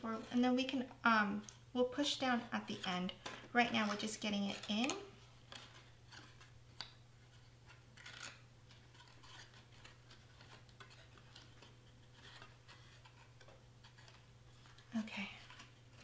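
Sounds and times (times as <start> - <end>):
cardstock rustling and clicking: 0.2 - 16.0.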